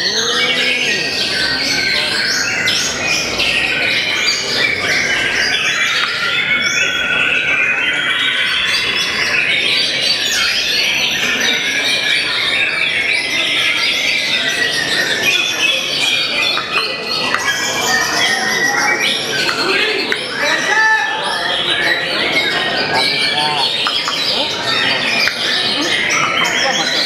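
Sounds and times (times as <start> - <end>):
birds singing whistled phrases: 0.0 - 27.0.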